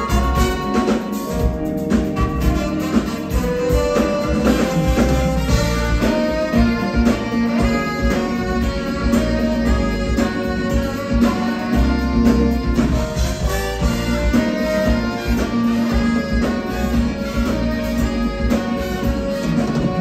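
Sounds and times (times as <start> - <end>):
live band playing instrumental: 0.0 - 20.0.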